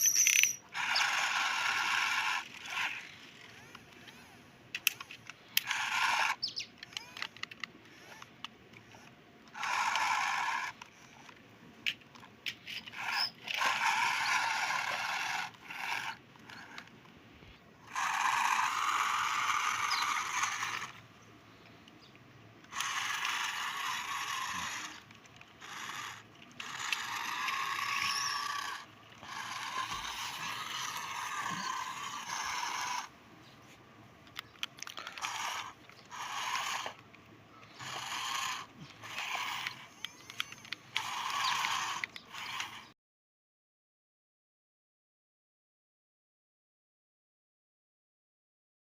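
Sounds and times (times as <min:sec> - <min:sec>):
toy truck gear mechanism whirring: 0:00.0 - 0:17.0, 0:17.8 - 0:21.1, 0:21.9 - 0:33.2, 0:34.2 - 0:43.0.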